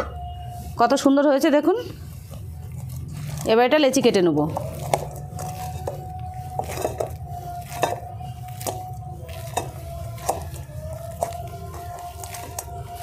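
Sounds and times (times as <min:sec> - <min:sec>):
hands kneading dough: 0:00.0 - 0:13.0.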